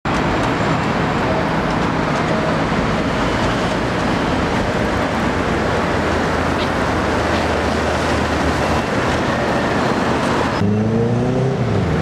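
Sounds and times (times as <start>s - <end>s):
road traffic: 0.0s - 12.0s
bus engine hum: 0.1s - 12.0s.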